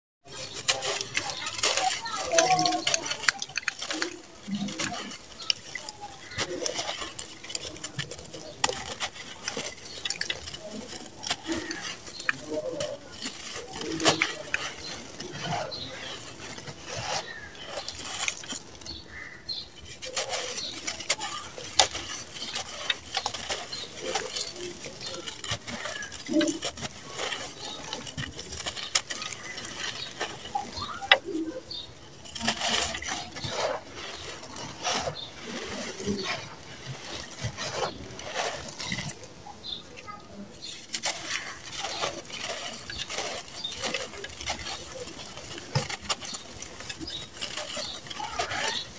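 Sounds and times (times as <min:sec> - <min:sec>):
grit pattering down: 0:00.2 - 0:48.9
sand-cement chunks crunching: 0:00.2 - 0:48.9.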